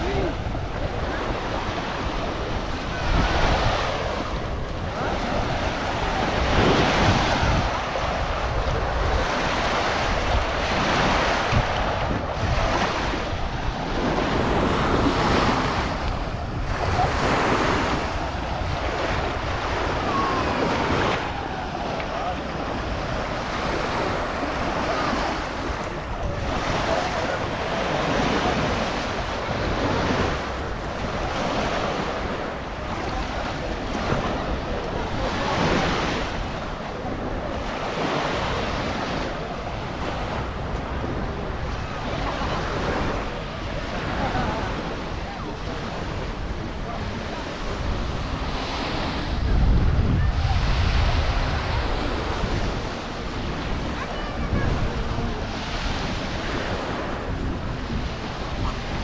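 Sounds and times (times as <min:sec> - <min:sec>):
small waves washing onto shore: 0:00.0 - 0:59.0
wind buffeting microphone: 0:00.0 - 0:59.0.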